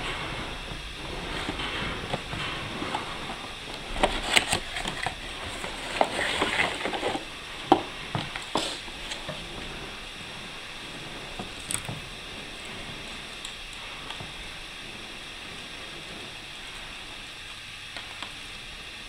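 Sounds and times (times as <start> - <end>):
cardboard rustling and scraping: 0.0 - 18.5.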